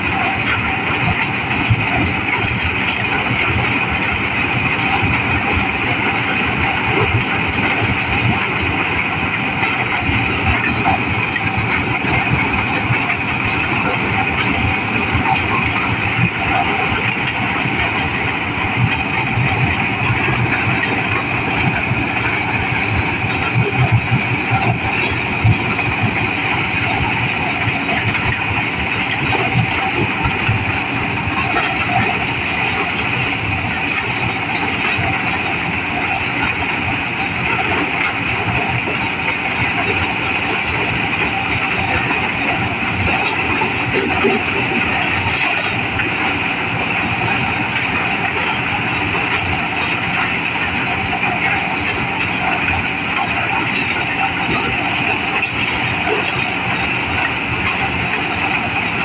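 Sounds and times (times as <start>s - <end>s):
corn sheller machine running: 0.0s - 59.0s.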